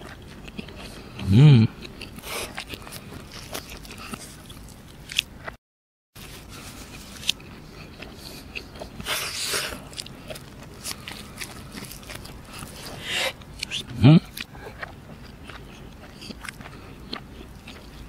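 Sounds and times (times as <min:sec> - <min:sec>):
mouth chewing food: 0:00.0 - 0:05.6, 0:06.5 - 0:18.0.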